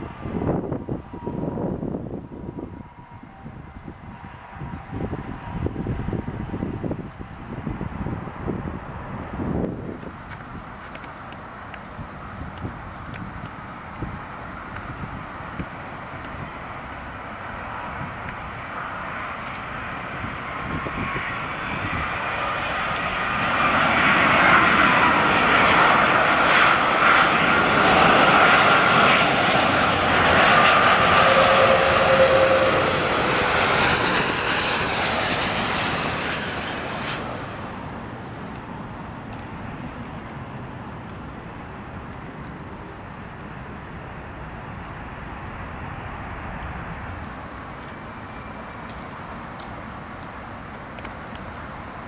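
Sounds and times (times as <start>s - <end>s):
jet engine rushing with whine: 0.0s - 52.0s
jet rumbling on runway: 0.0s - 52.0s.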